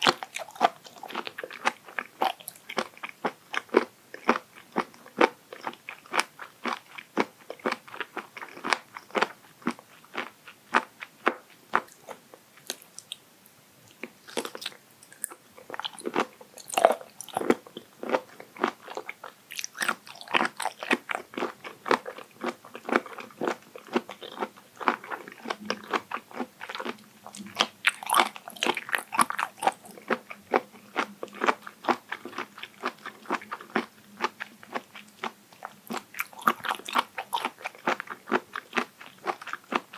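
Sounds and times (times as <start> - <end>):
crisp chewing crunches: 0.0 - 13.2, 13.9 - 39.9.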